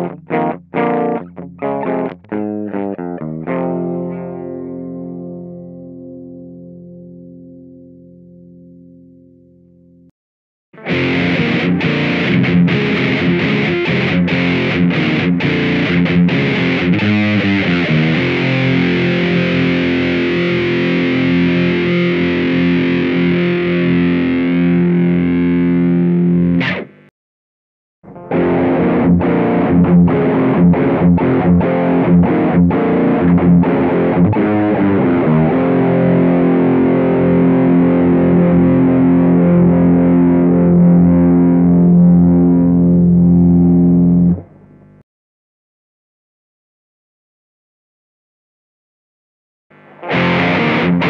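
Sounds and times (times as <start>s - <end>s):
distorted electric guitar chords: 0.0s - 10.1s, 10.8s - 27.1s, 28.0s - 45.0s, 49.7s - 51.0s.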